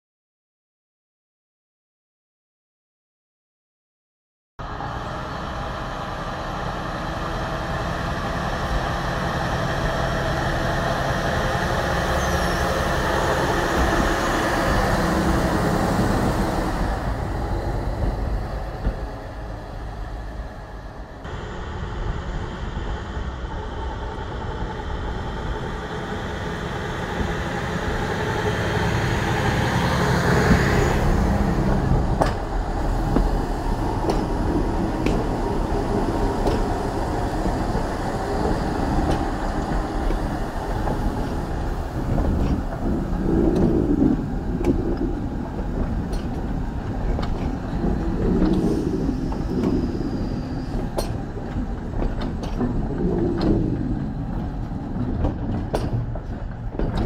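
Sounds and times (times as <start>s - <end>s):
diesel locomotive engine running: 4.6s - 57.0s.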